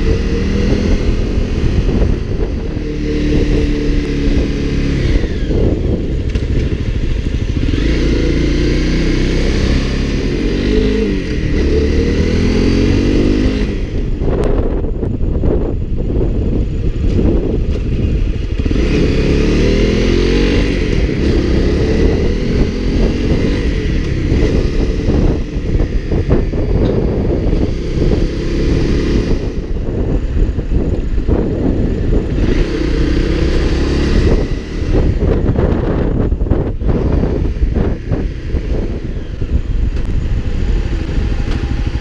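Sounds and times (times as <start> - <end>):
motorcycle engine running: 0.0 - 42.0
wind rushing over microphone: 0.0 - 42.0.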